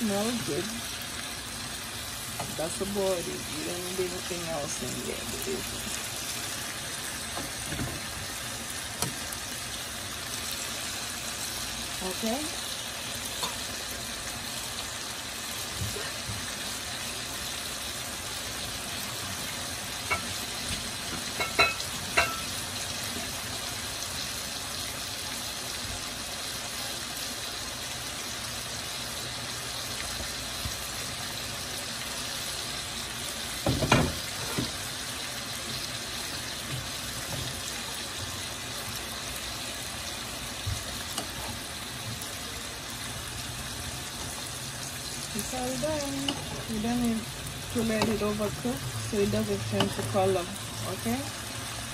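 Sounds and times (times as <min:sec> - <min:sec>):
vegetables sizzling in oil: 0:00.0 - 0:51.9.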